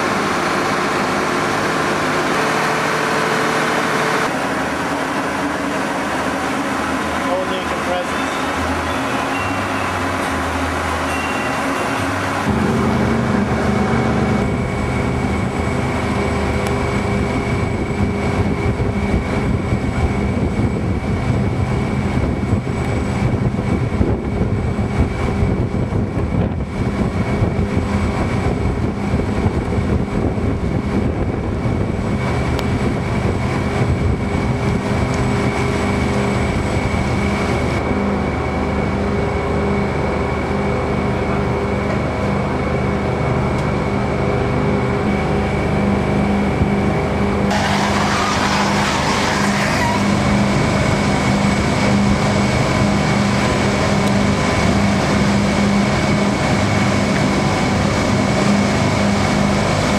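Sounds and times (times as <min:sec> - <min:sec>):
boat engine droning: 0:00.0 - 0:59.9
thin high whine: 0:00.0 - 0:59.9.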